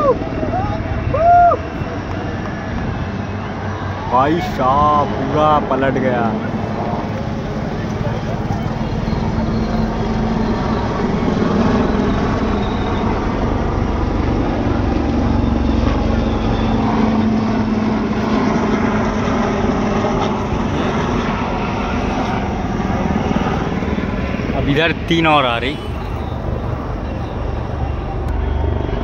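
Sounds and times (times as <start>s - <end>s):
aircraft engines flying overhead: 0.0s - 29.0s.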